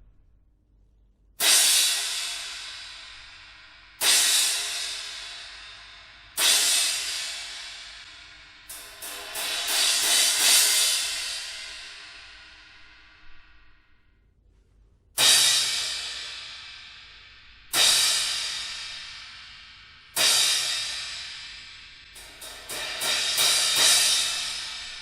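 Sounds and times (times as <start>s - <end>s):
cymbal crashes: 1.4s - 13.2s, 15.2s - 25.0s
cymbal roll: 1.4s - 13.6s, 15.2s - 25.0s.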